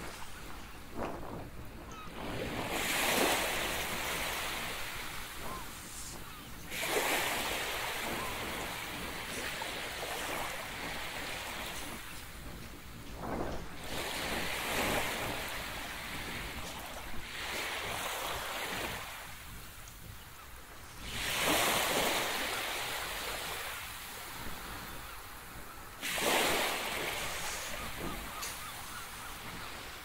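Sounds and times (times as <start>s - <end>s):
waves breaking on beach: 0.0s - 30.0s.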